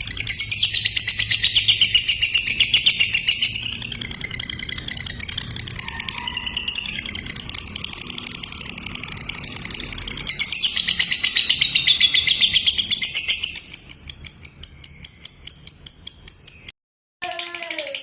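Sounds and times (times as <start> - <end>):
lovebird high-pitched trill: 0.0 - 18.0.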